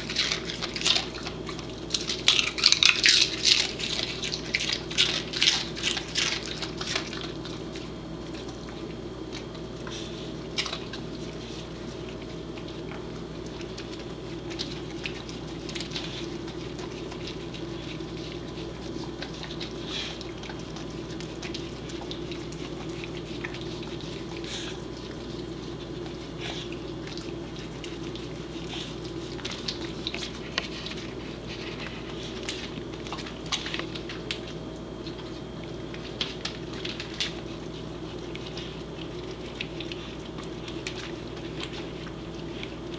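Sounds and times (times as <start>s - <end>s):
dog licking and crunching egg: 0.0s - 42.9s
steady low hum: 0.0s - 42.9s.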